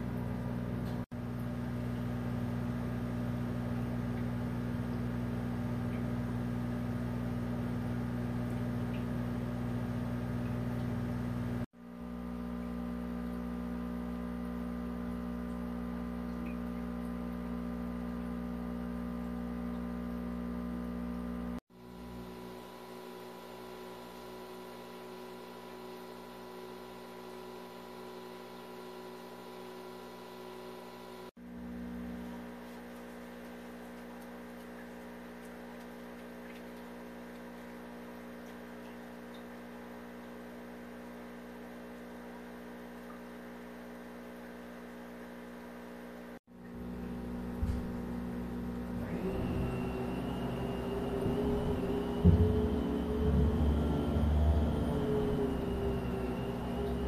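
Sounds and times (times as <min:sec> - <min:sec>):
aquarium pump humming: 0:00.0 - 0:57.0.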